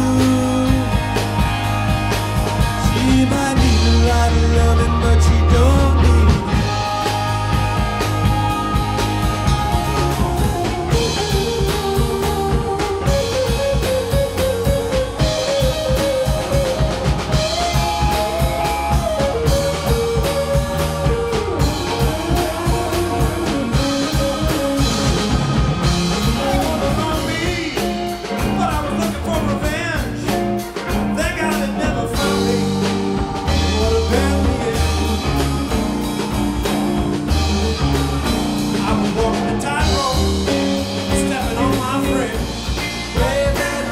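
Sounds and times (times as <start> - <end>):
drum kit beat: 0.0 - 43.9
electric guitars: 0.0 - 43.9.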